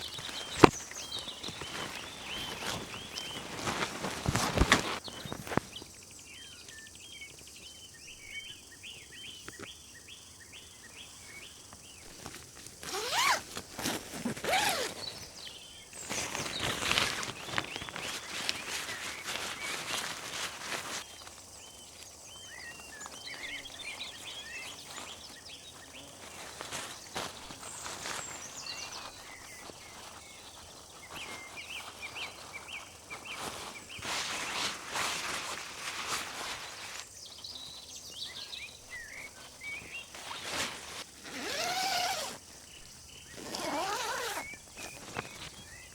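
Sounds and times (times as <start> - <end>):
close rustling and footsteps: 0.0 - 6.8, 11.6 - 45.9
small birds chirping: 0.0 - 45.9.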